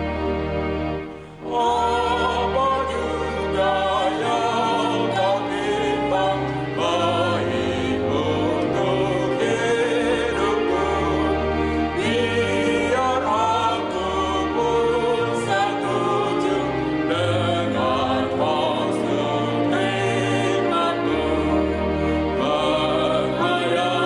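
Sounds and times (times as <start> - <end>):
man and woman singing a hymn: 1.4 - 24.0.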